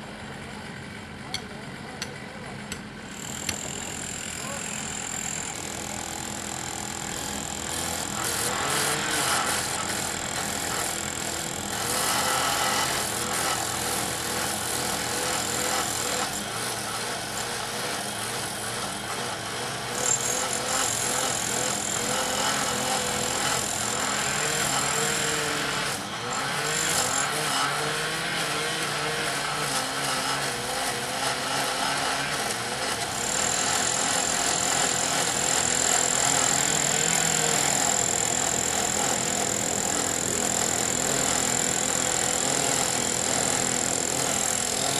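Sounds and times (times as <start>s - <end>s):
rail repair machinery running: 0.0s - 44.9s
street traffic: 0.0s - 44.9s.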